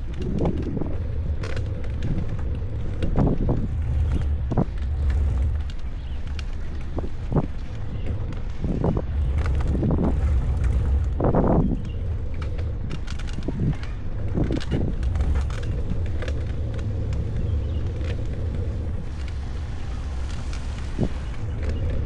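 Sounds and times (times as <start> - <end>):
bicycle clicks and rattles: 0.0 - 22.0
wind buffeting microphone: 0.0 - 22.0.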